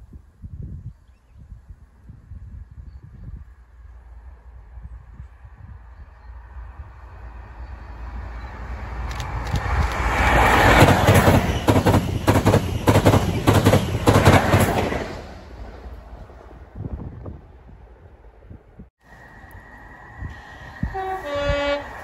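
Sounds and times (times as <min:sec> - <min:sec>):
diesel train engine: 0:03.7 - 0:22.0.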